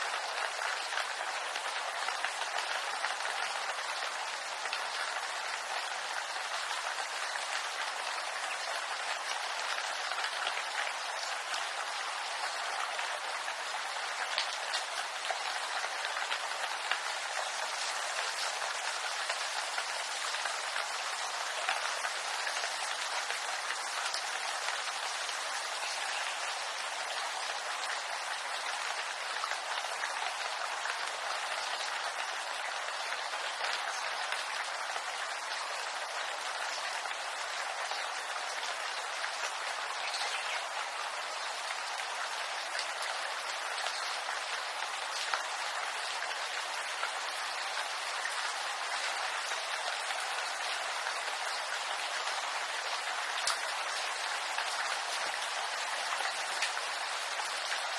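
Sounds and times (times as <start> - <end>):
rain on bamboo leaves: 0.0 - 57.9.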